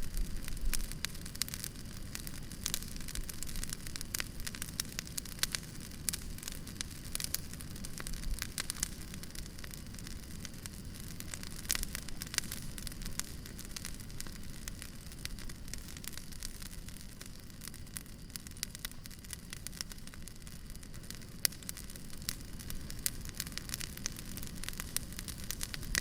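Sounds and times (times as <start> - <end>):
fire low rumble: 0.0 - 26.0
fire popping and snapping: 0.0 - 26.0.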